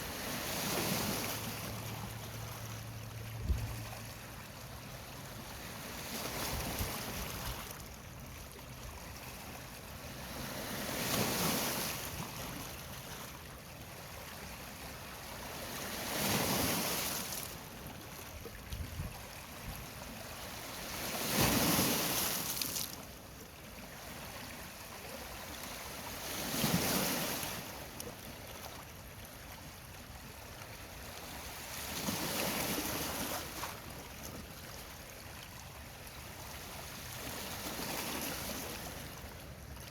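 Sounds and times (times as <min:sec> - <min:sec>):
steady wash of water: 0:00.0 - 0:39.9.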